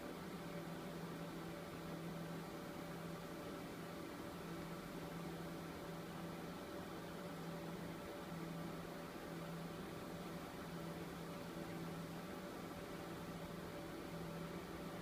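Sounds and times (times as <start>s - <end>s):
server cooling fans whirring: 0.0s - 15.0s.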